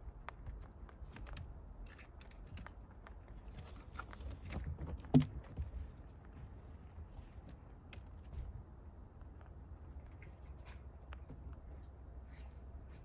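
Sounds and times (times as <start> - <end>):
rabbits pattering on wire mesh: 0.1 - 13.0.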